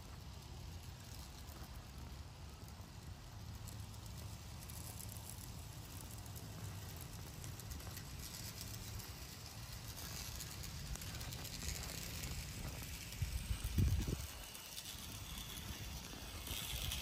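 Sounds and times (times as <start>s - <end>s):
model train wheels on track: 0.0s - 17.0s
steady low rumble: 0.0s - 17.0s.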